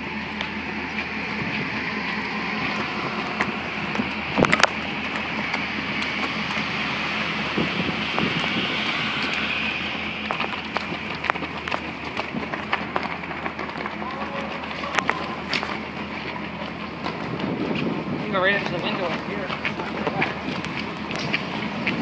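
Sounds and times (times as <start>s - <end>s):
ship engines and ventilation drone: 0.0s - 22.0s.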